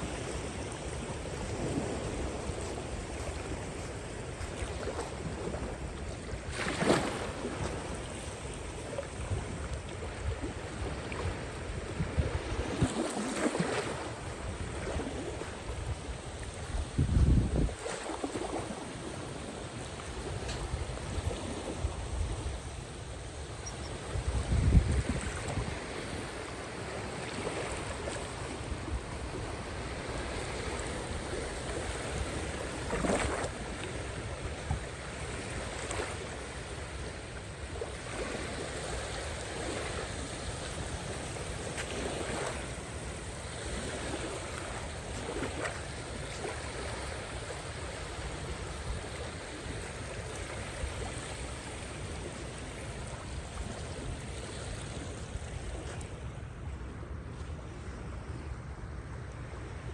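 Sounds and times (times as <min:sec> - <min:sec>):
waves breaking: 0:00.0 - 0:59.9
wind rumble on microphone: 0:00.0 - 0:59.9.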